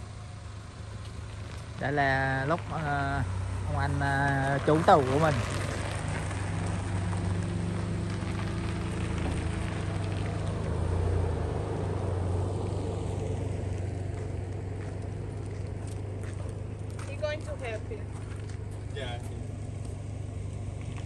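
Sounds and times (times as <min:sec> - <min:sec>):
pickup truck engine running: 0:00.0 - 0:21.0.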